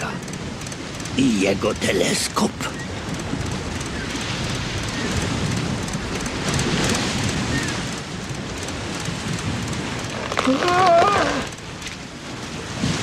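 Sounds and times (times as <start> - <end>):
wind and rain storm: 0.0 - 13.0.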